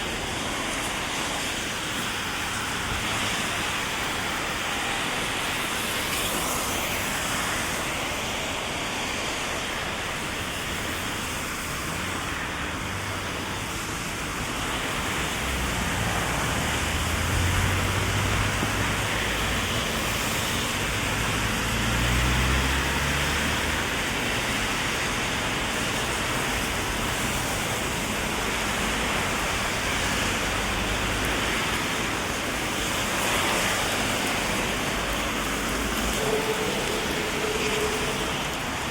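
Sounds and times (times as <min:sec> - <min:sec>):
heavy rain: 0:00.0 - 0:38.9
passing traffic rumble: 0:00.0 - 0:38.9.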